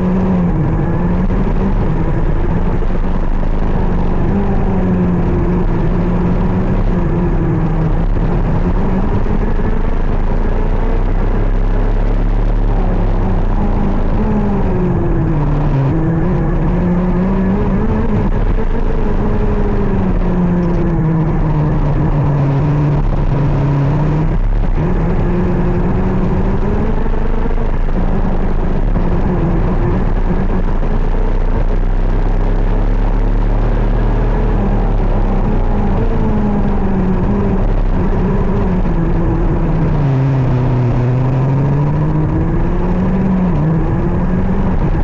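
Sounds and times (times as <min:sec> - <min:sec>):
two-stroke kart engine revving: 0:00.0 - 0:45.0.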